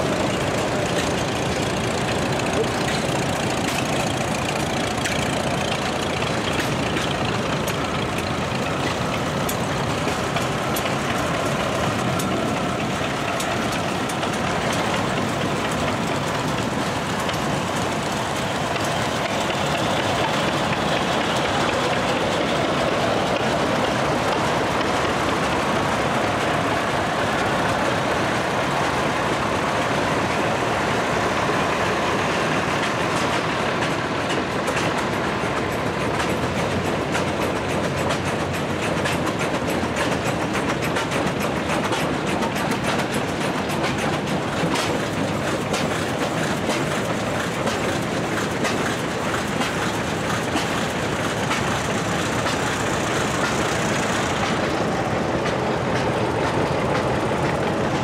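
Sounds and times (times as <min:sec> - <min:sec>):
steel wheels ticking and clattering: 0:00.0 - 0:58.0
tractor engines running: 0:00.0 - 0:58.0.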